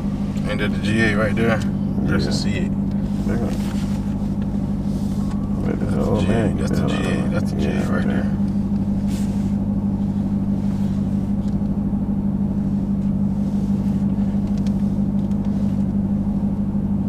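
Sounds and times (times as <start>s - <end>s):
car engine droning in cabin: 0.0s - 17.0s.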